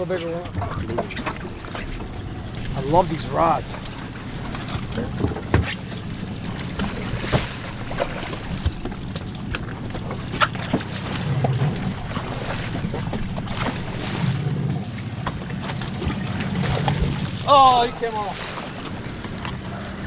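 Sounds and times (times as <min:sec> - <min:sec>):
boat engine low hum: 0:00.0 - 0:20.0
moving water: 0:00.0 - 0:20.0.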